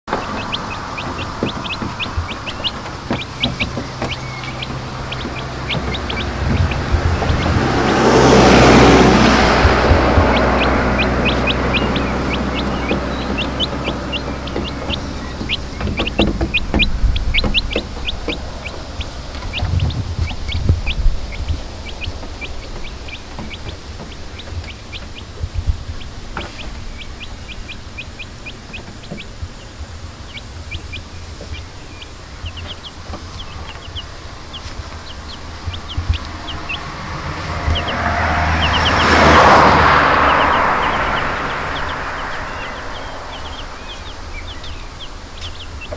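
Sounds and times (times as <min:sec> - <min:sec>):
birds chirping: 0:00.0 - 0:45.9
vehicle engine rumble: 0:00.0 - 0:45.9.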